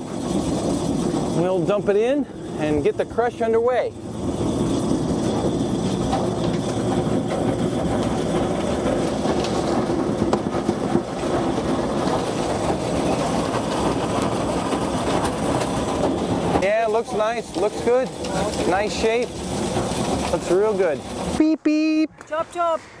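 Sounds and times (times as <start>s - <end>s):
grape crusher rattling clatter: 0.0s - 21.6s.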